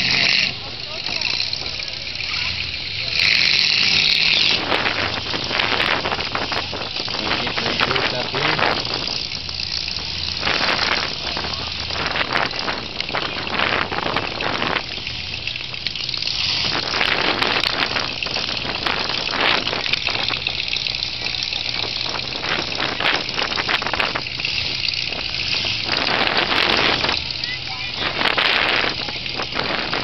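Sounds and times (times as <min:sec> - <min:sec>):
heavy engines running: 0:00.0 - 0:30.0
wind buffeting microphone: 0:00.0 - 0:30.0.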